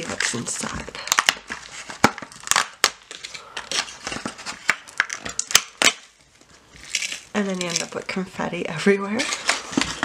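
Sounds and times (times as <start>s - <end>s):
plastic packaging crackling: 0.0s - 10.0s.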